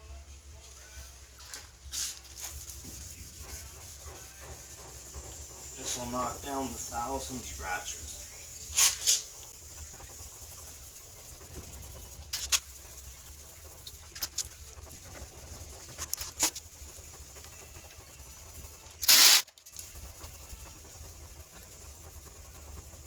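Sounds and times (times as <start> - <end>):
sandpaper rubbing strokes: 1.4 - 23.0.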